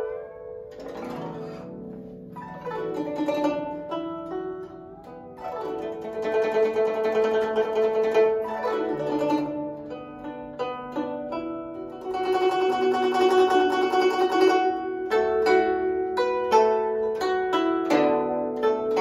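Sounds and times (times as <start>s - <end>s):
guzheng plucked notes: 0.0s - 19.0s.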